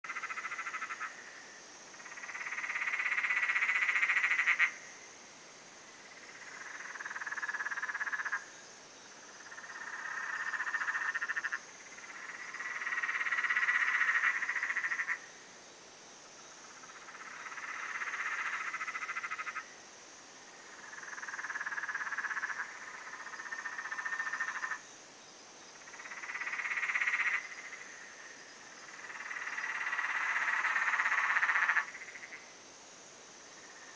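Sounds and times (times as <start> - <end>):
steady high hiss: 0.1 - 33.9.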